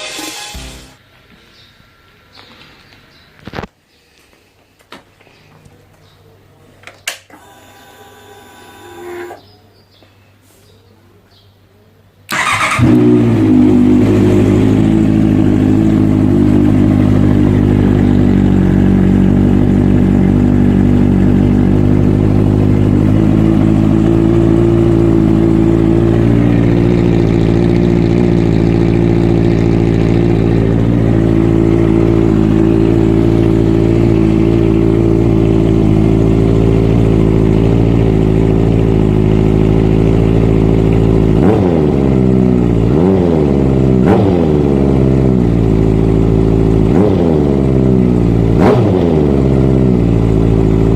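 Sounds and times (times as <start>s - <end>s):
motorcycle engine starting and idling: 6.8s - 9.5s, 12.3s - 50.9s.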